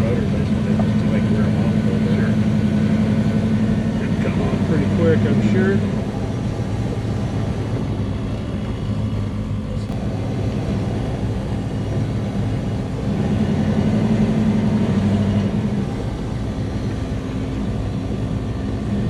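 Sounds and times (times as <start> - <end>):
engine exhaust drone: 0.0 - 19.0.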